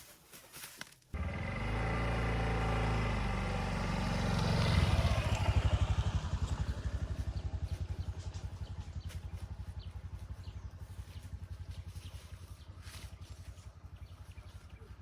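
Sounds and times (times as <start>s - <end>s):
small engine chugging: 1.2s - 15.0s.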